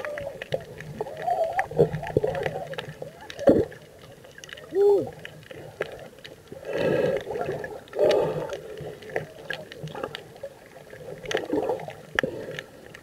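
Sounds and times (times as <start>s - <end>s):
muffled underwater sloshing: 0.0s - 13.0s.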